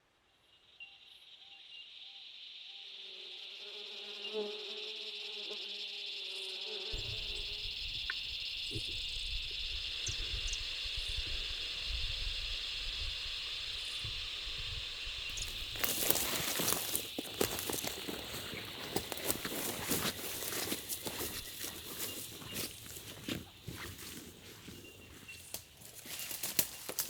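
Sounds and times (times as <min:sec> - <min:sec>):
insects buzzing: 0:00.6 - 0:27.0.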